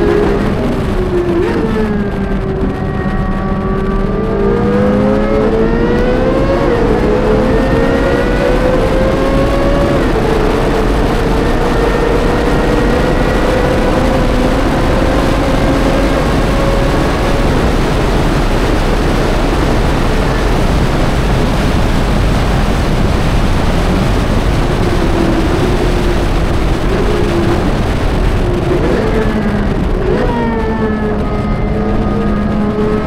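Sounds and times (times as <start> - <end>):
sports car engine: 0.0 - 33.0
wind and tyre noise: 0.0 - 33.0.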